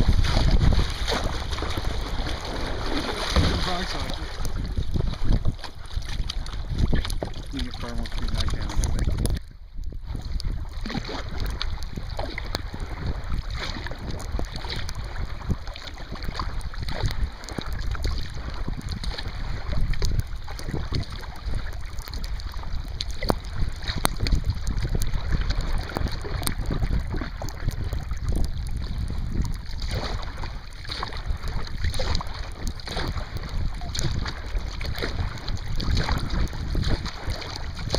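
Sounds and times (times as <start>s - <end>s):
water splashing around kayak: 0.0s - 37.9s
wind rumbling on microphone: 0.0s - 37.9s.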